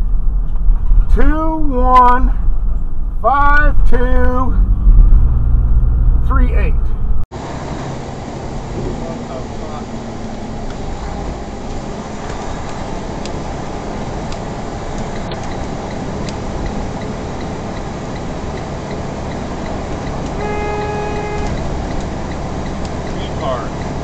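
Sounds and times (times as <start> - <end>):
road and engine noise in truck cab: 0.0 - 24.0.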